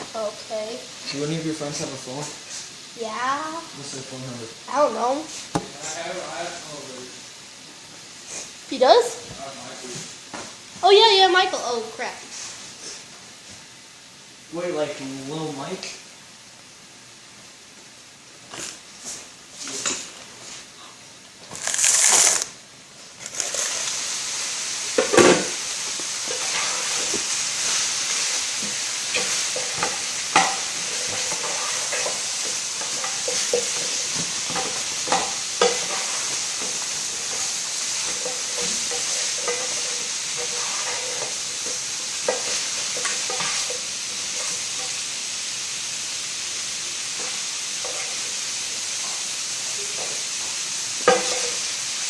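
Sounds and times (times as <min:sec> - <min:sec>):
chicken sizzling in oil: 0:00.0 - 0:17.4, 0:21.4 - 0:52.0.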